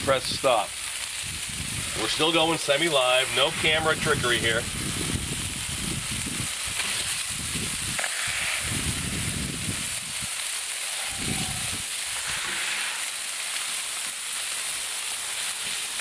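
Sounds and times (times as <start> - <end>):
meat sizzling on a griddle: 0.0 - 16.0.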